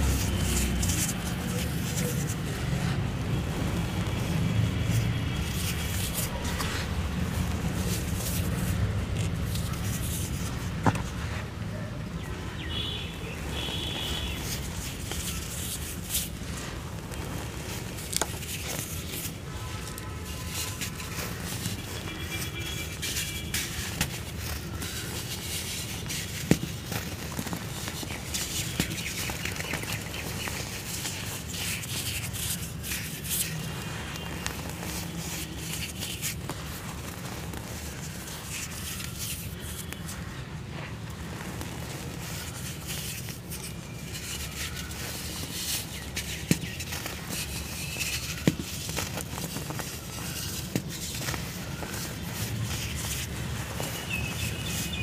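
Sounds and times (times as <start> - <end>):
gritty crackling and crunching: 0.0 - 55.0.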